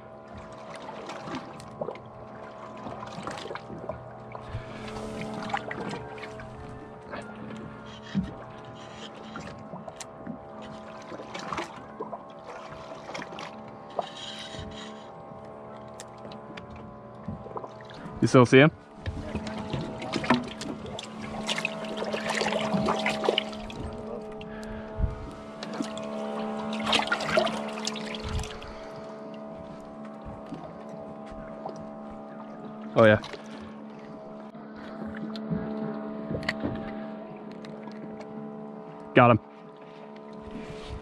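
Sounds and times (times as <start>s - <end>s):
steady hum: 0.0s - 41.0s
water splashes: 0.0s - 41.0s.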